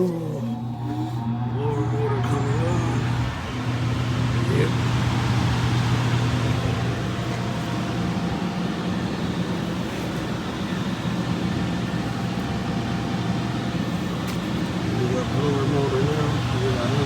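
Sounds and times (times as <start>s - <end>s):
blower motor humming: 0.0s - 17.0s.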